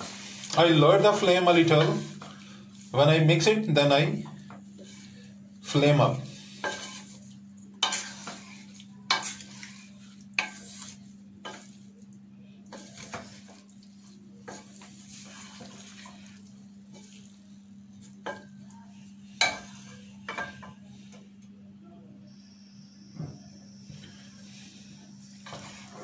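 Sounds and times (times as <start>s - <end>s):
food sizzling: 0.0s - 12.0s, 12.7s - 20.7s, 23.8s - 26.0s
spatula scraping pot: 0.0s - 12.0s, 12.6s - 21.2s, 23.8s - 26.0s.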